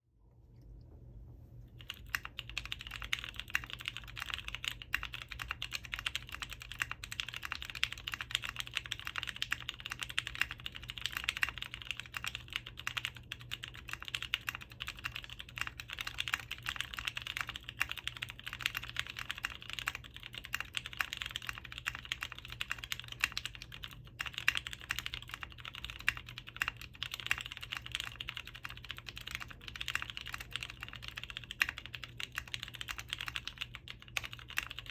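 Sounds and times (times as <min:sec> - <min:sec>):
fast typing on mechanical keyboard: 0:01.8 - 0:34.9.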